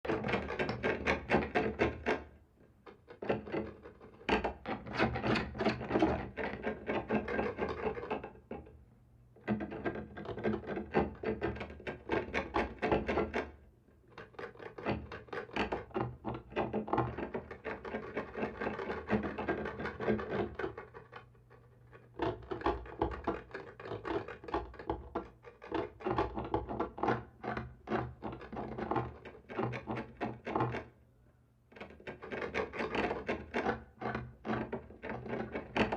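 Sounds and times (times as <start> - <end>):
scratching on a wall: 0.1 - 8.8, 9.4 - 31.0, 31.7 - 35.9.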